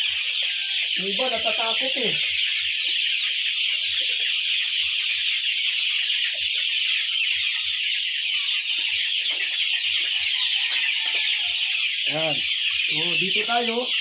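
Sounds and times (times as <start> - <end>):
chicks chirping shrilly: 0.0 - 14.0.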